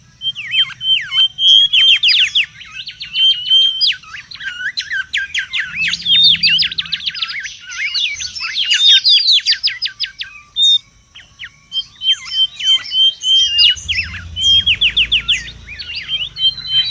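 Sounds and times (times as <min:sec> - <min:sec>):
bird whistling calls: 0:00.2 - 0:16.9.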